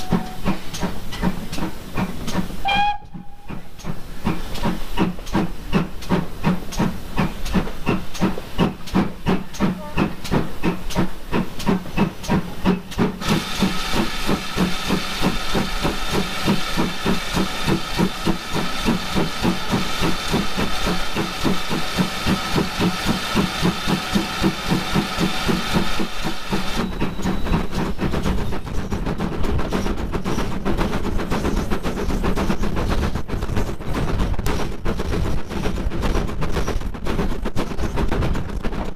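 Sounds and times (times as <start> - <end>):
loud steam hiss: 0.0 - 33.4
steam locomotive exhaust beats: 0.0 - 38.9.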